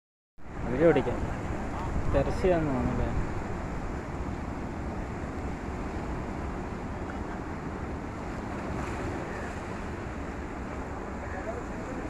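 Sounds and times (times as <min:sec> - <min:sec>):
wind rumbling on microphone: 0:00.4 - 0:12.0
sea surf washing on rocks: 0:00.5 - 0:12.0.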